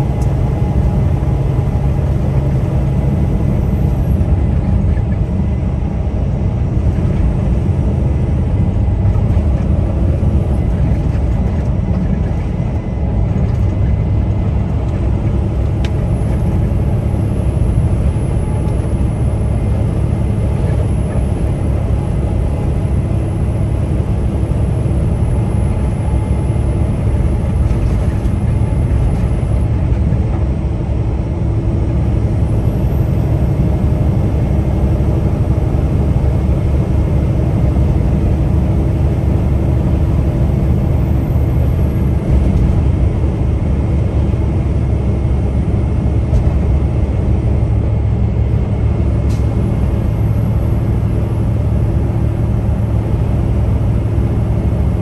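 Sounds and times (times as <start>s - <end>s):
truck engine and road rumble: 0.0s - 55.0s.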